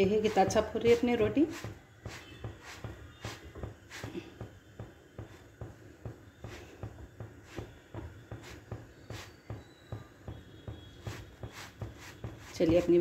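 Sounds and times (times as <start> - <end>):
cloth patting flatbread: 0.0 - 13.0.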